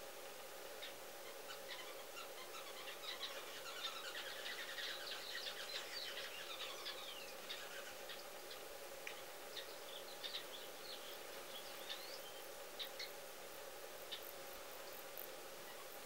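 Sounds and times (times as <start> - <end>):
faint steady hum: 0.0 - 16.0
small birds chirping: 0.6 - 16.0.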